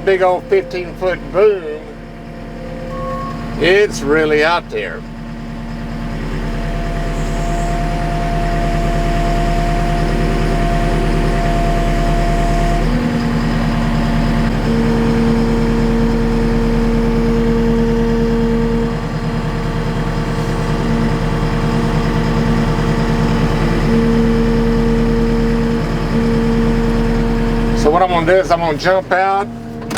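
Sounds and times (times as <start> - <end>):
diesel engine running: 0.0 - 29.9
hydraulic whine: 0.0 - 29.9.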